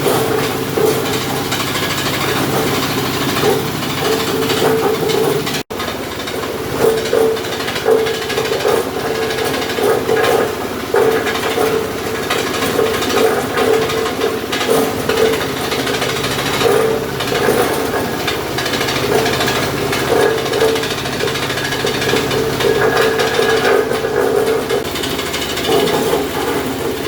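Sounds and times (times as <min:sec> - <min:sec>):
blocks knocking and rattling: 0:00.0 - 0:27.0
crusher machine running: 0:00.0 - 0:27.0.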